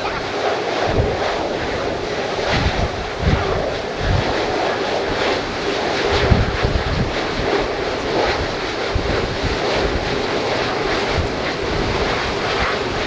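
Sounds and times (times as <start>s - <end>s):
airliner engines running: 0.0s - 13.0s
wind buffeting microphone: 0.0s - 13.0s.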